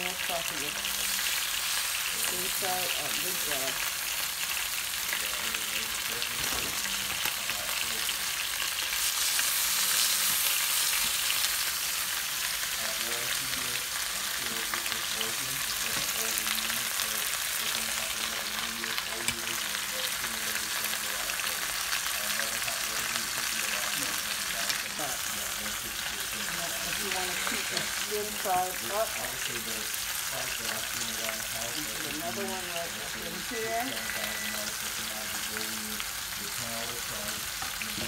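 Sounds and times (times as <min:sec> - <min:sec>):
chicken sizzling in hot fat: 0:00.0 - 0:38.0.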